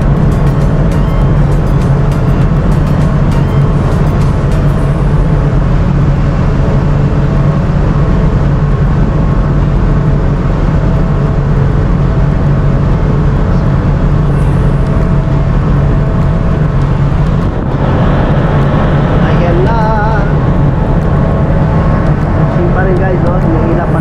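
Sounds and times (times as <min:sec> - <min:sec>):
diesel engines deep drone: 0:00.0 - 0:24.0.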